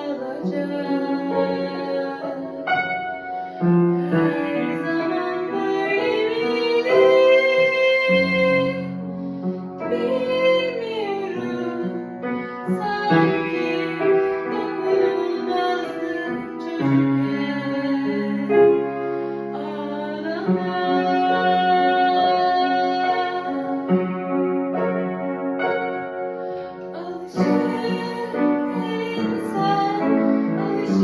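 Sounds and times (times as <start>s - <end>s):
woman singing slowly: 0.0s - 2.9s, 4.0s - 9.0s, 9.8s - 18.8s, 19.6s - 23.9s, 26.9s - 31.0s.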